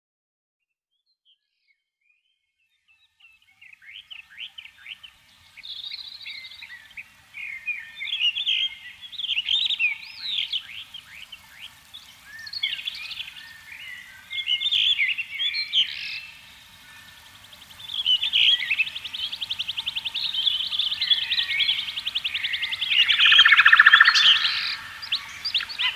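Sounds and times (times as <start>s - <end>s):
birds singing and chirping: 4.2s - 25.9s.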